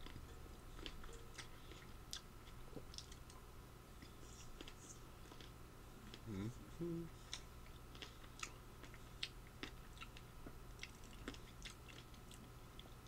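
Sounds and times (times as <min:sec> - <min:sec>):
faint crunchy chewing: 0:00.0 - 0:03.4, 0:04.0 - 0:06.4, 0:07.2 - 0:13.0.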